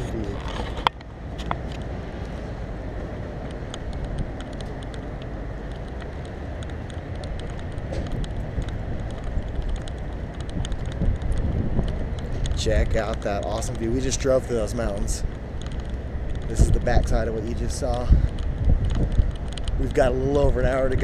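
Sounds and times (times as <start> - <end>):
rumble of vehicles: 0.0 - 21.0
wind buffeting microphone: 0.0 - 21.0
faint clicks: 3.4 - 21.0.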